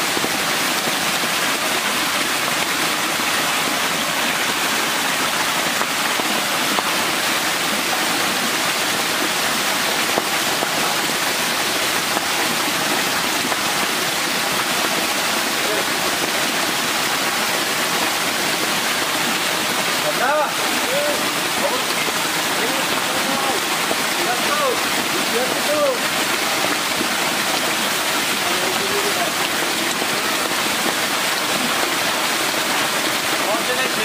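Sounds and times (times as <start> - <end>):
water gushing and splashing: 0.0 - 34.0.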